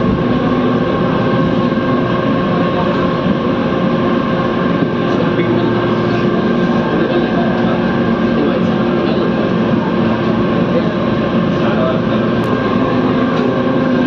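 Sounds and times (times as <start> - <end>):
train running with whining tones: 0.0 - 14.0.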